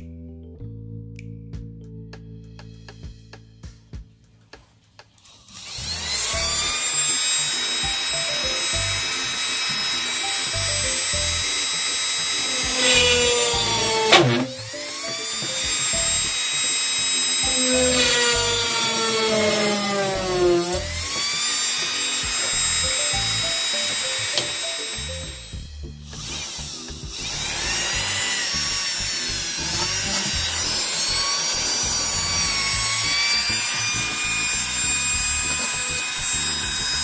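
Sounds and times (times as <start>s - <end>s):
background music: 0.0s - 37.0s
small drill whining: 5.3s - 37.0s.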